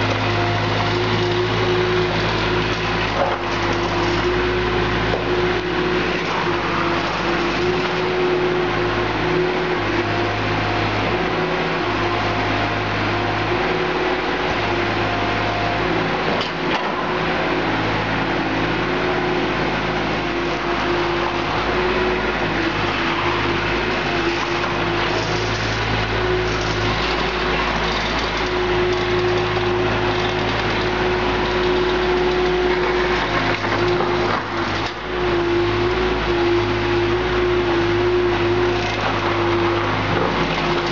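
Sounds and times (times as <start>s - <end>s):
loader engine running: 0.0s - 40.9s.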